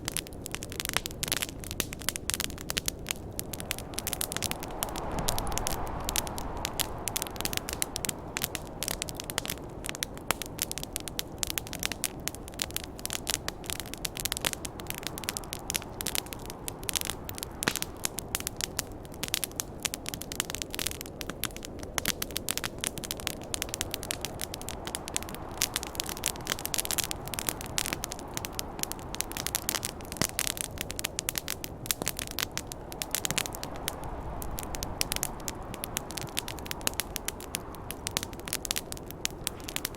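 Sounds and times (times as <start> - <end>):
campfire crackling and popping: 0.0 - 39.9
snowstorm wind rushing: 0.8 - 39.9.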